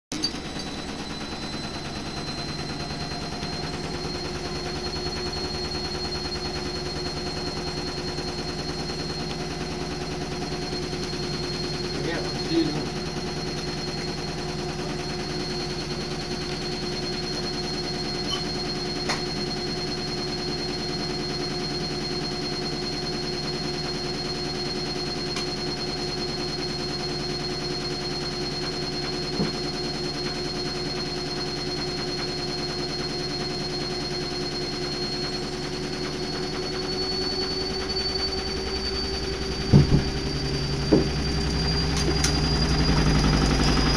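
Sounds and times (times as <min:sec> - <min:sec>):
washing machine spinning: 0:00.1 - 0:43.9.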